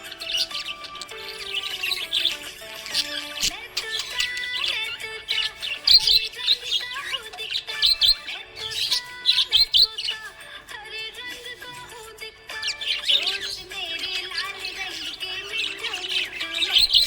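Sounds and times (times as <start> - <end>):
budgerigar chirping: 0.0 - 10.4, 12.6 - 17.0
background music with held notes: 0.0 - 17.0.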